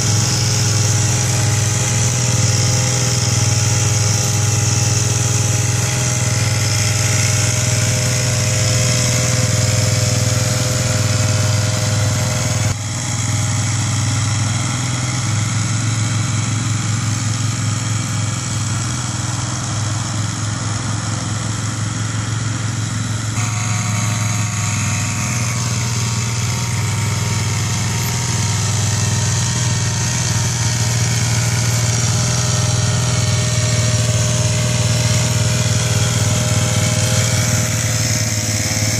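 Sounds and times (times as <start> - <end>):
small engines running steadily: 0.0 - 38.9.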